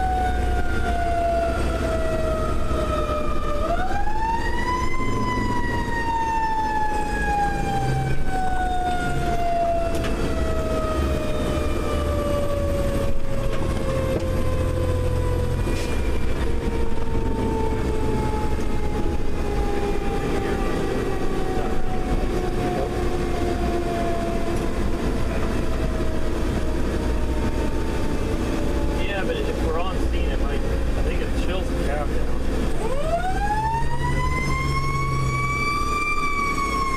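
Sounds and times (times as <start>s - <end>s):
mechanical siren winding down: 0.0s - 29.1s, 32.7s - 36.9s
truck engine rumble: 0.0s - 36.9s.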